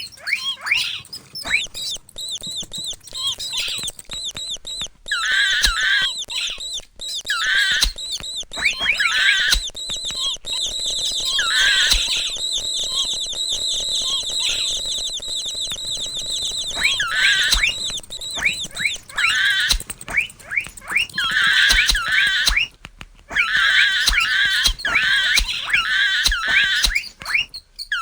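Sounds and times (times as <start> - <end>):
mouse squeaking: 0.0 - 28.0.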